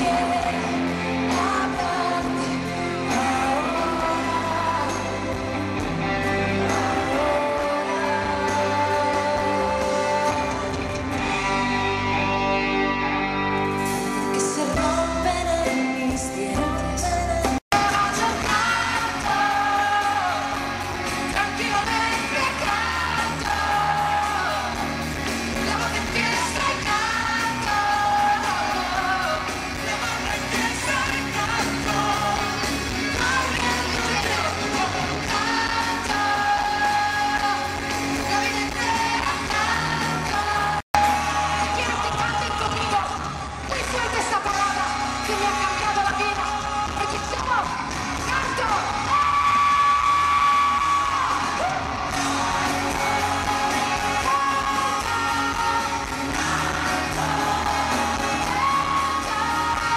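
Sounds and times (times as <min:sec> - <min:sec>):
woman singing pop: 0:00.0 - 0:11.5, 0:14.3 - 0:59.9
band with electric guitar: 0:00.0 - 0:59.9.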